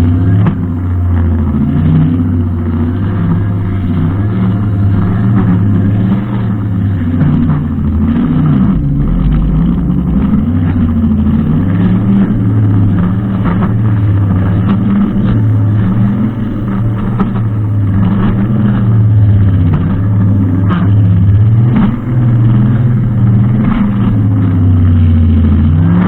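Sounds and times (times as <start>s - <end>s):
brushcutter engine running: 0.0s - 26.0s.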